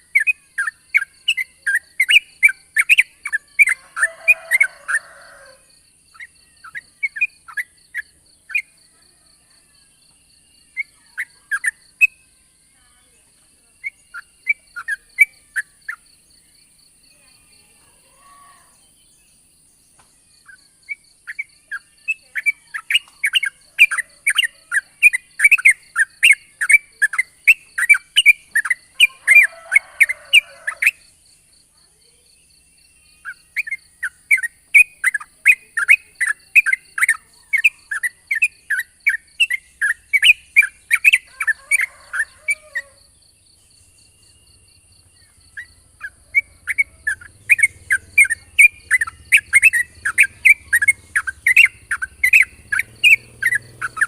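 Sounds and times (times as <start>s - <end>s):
bird chattering song: 0.0s - 9.3s, 9.9s - 54.0s.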